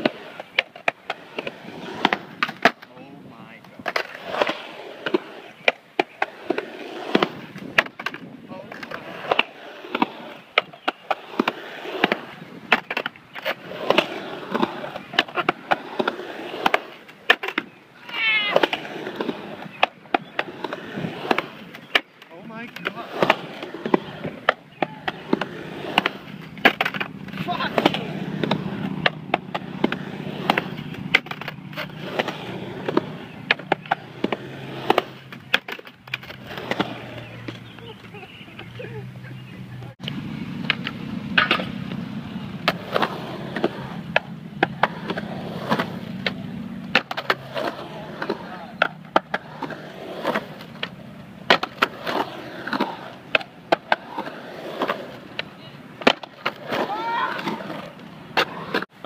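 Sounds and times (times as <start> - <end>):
skateboard clacking on concrete: 0.0 - 38.8, 39.8 - 59.0
skateboard wheels rolling on concrete: 0.0 - 59.0.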